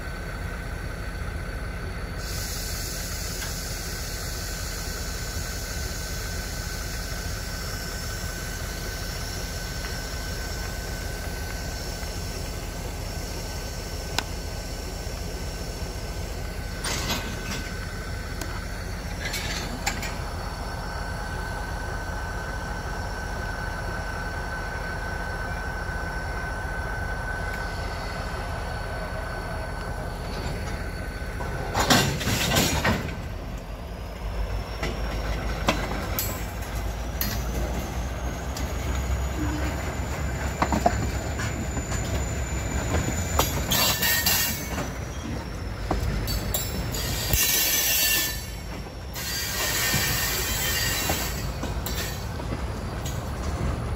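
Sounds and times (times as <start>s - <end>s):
steel wheels squealing on rails: 0.0s - 53.9s.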